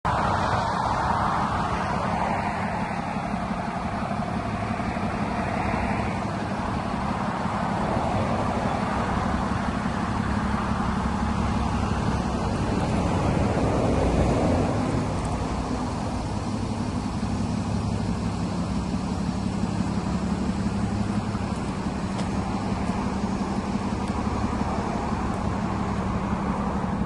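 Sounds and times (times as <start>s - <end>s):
diesel truck engine idling: 0.1s - 27.0s.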